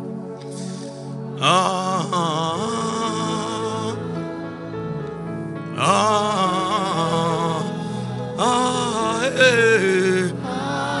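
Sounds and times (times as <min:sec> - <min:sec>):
slow gospel music: 0:00.0 - 0:11.0
person singing: 0:01.4 - 0:11.0.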